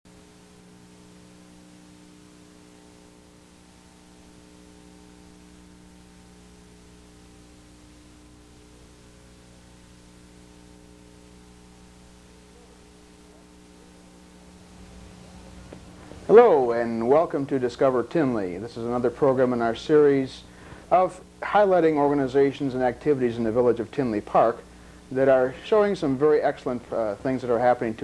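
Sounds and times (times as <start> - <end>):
electrical mains hum: 0.1 - 28.0
faint hiss: 0.1 - 28.0.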